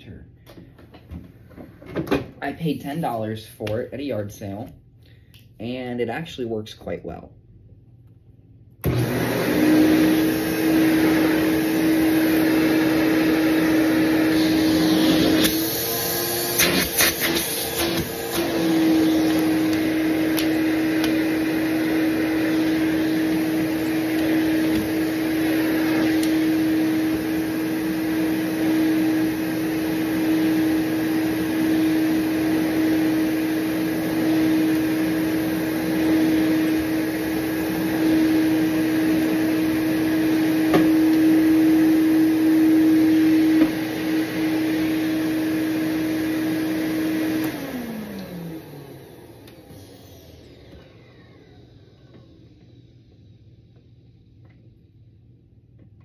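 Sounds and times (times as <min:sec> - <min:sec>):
vacuum cleaner humming: 0:08.8 - 0:54.5
vacuum winding down: 0:08.8 - 0:54.6.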